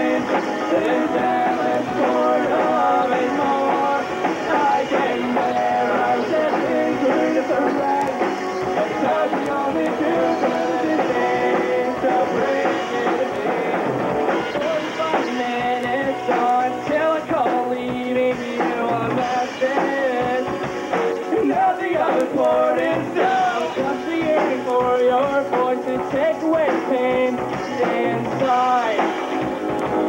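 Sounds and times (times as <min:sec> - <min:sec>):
drum kit: 0:00.0 - 0:30.0.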